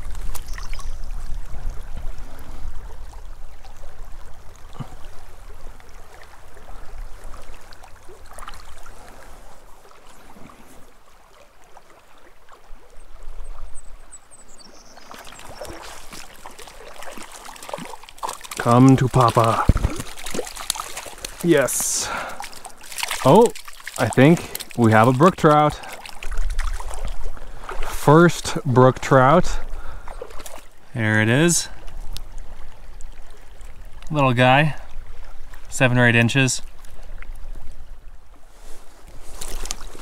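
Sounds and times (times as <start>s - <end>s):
light water splashes: 0.0s - 35.8s, 36.6s - 40.0s
creek running over rocks: 0.0s - 40.0s.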